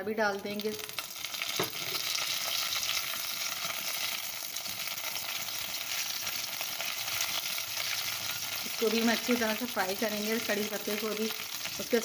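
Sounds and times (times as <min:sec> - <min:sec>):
garlic sizzling in hot oil: 0:00.3 - 0:12.0.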